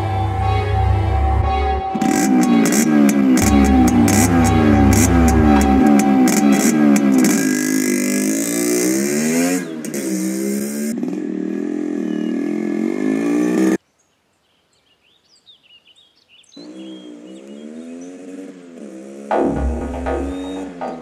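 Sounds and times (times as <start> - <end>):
motorcycle engine revving: 0.0 - 13.8, 16.6 - 21.0.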